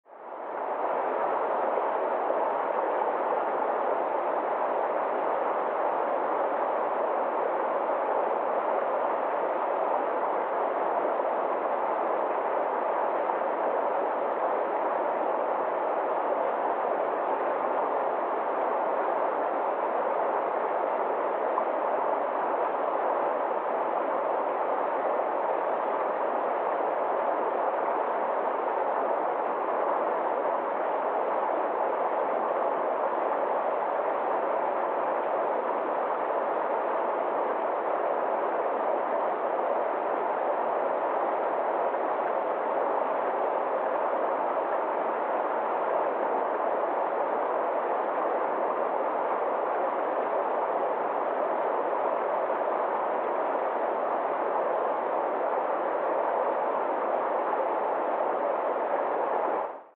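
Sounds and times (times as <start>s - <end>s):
stream rushing over rocks: 0.5s - 59.6s.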